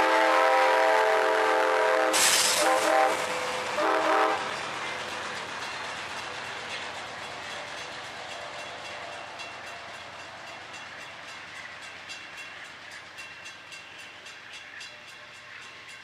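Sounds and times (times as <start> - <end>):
freight train wheels on rail: 0.0 - 16.0
wheels clicking over rail joints: 2.2 - 16.0.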